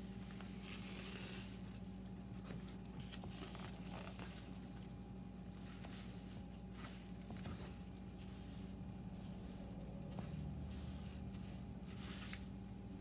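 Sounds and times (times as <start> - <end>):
soft rustles and clicks: 0.0 - 12.8
steady low hum: 0.0 - 13.0.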